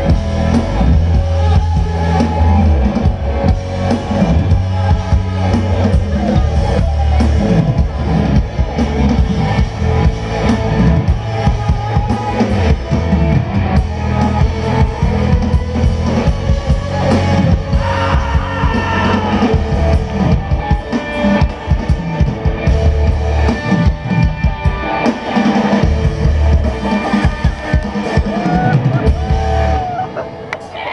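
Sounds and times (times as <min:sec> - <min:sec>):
live rock band playing: 0:00.0 - 0:30.9.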